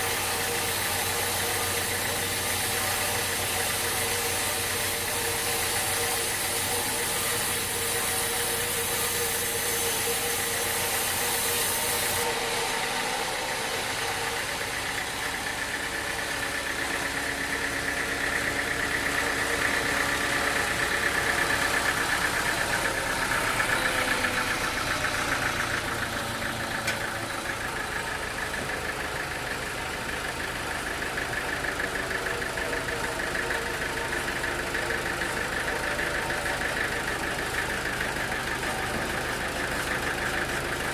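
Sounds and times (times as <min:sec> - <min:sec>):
sawmill machinery drone: 0:00.0 - 0:40.9.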